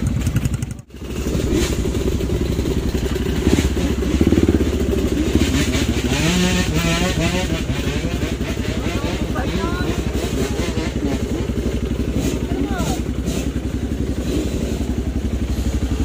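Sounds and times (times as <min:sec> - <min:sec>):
dirt bike engines running: 0:00.0 - 0:16.0.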